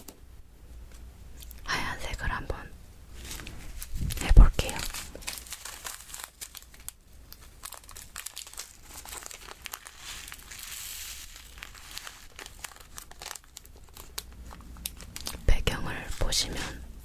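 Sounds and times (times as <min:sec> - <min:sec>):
soft rustling hiss: 0:00.0 - 0:17.0.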